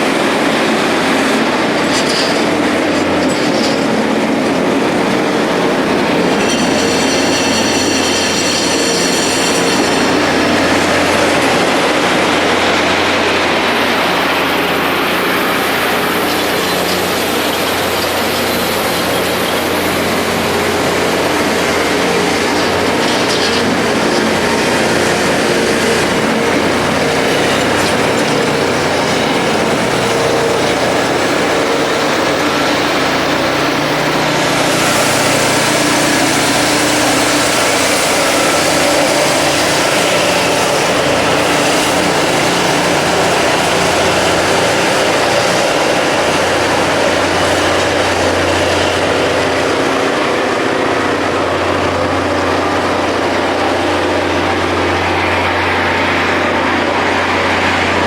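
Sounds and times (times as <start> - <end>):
diesel engines running: 0.0 - 58.0
grinding stones hissing on rail: 0.0 - 58.0.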